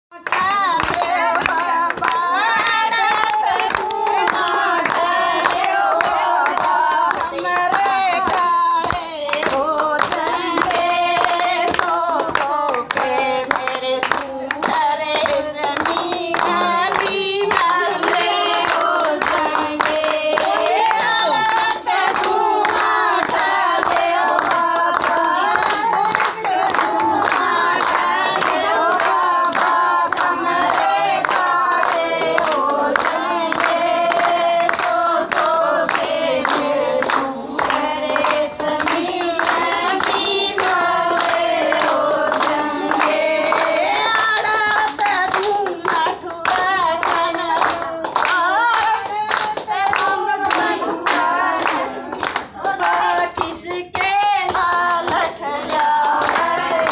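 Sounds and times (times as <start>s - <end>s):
hands clapping a steady beat: 0.1s - 56.9s
women singing folk song: 0.2s - 56.9s.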